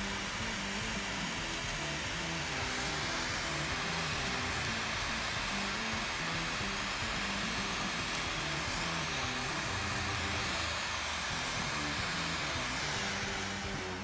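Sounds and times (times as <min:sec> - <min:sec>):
gas torch hissing: 0:00.0 - 0:14.0.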